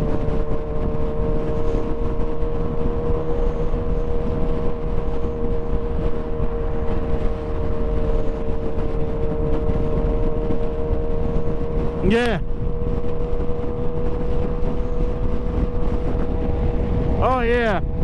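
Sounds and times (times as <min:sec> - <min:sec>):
motorcycle engine cruising: 0:00.0 - 0:18.0
road rumble: 0:00.0 - 0:18.0
wind: 0:00.0 - 0:18.0.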